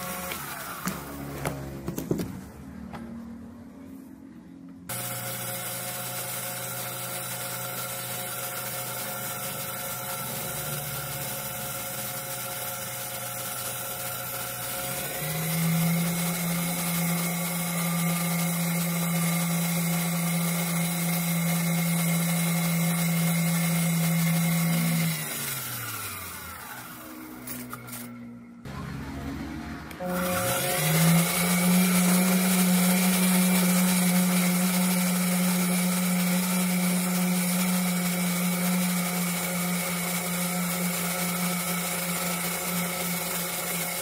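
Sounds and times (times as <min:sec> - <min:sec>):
lathe motor whine: 0:00.0 - 0:01.8, 0:04.9 - 0:44.0.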